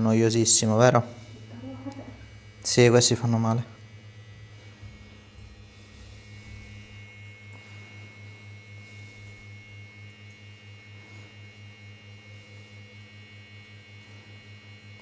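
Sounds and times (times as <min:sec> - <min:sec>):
massage device pulsing electric hum: 0:00.0 - 0:15.0.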